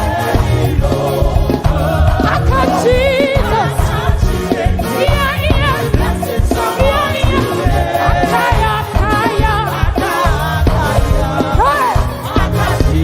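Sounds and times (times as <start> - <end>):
band with drum and bass beat: 0.0 - 13.0
choir singing: 0.0 - 13.0.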